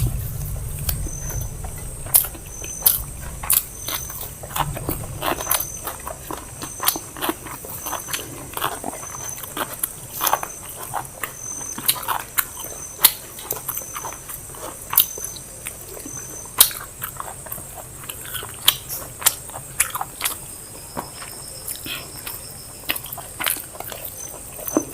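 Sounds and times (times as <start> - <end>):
people chewing close up: 0.0 - 24.9.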